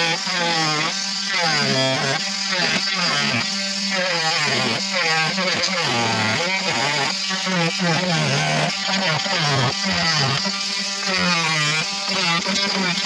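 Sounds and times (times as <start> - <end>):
oscillating multi-tool cutting plastic: 0.0 - 13.0.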